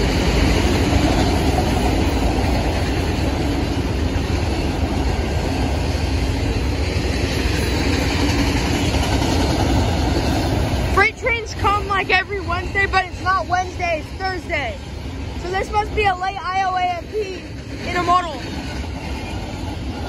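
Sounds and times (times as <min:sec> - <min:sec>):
freight train rumbling past: 0:00.0 - 0:20.0
locomotives idling hum: 0:00.0 - 0:20.0.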